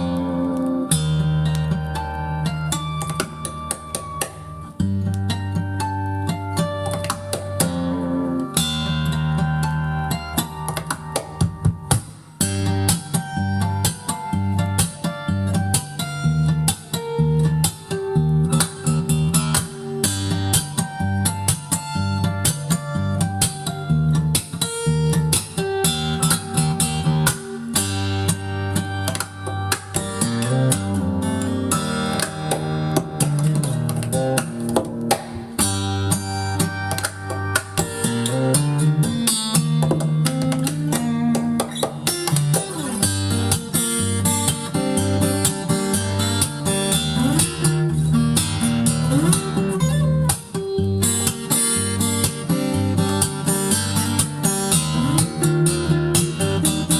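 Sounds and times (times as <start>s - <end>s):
guitar music from vinyl record: 0.0s - 56.9s.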